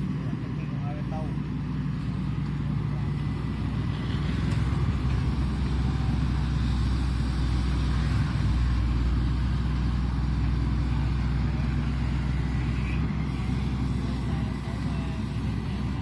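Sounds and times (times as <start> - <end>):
excavator diesel engine droning: 0.0 - 16.0.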